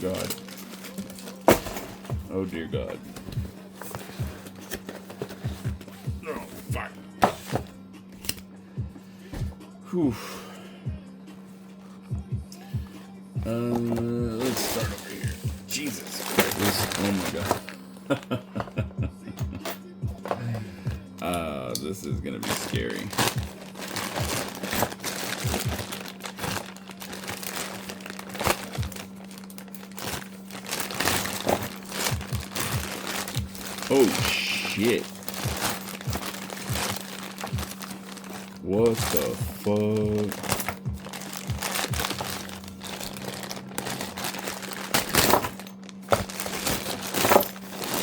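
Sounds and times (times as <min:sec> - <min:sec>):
packaging crinkling and rustling: 0:00.0 - 0:08.4, 0:13.4 - 0:18.4, 0:22.0 - 0:48.0
faint steady hum: 0:00.0 - 0:48.0.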